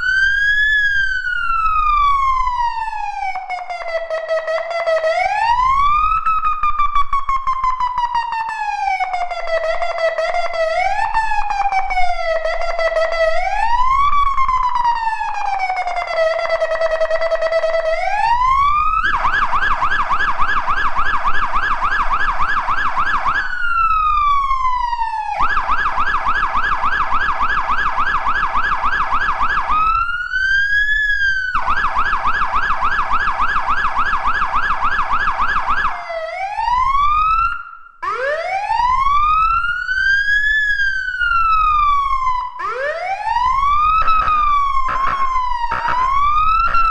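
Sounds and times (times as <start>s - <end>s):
fire engine siren: 0.0s - 46.9s.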